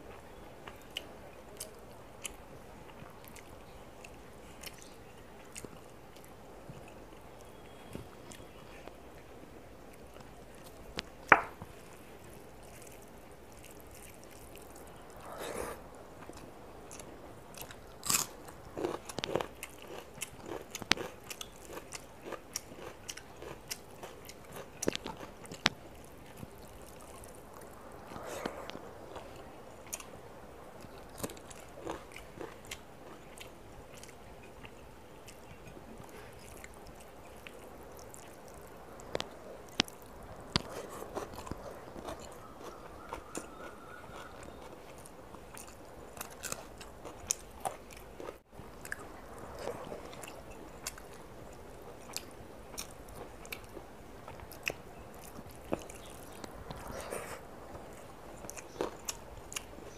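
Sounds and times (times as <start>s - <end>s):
person chewing with wet smacks: 0.1s - 9.3s, 9.9s - 30.1s, 30.8s - 59.9s.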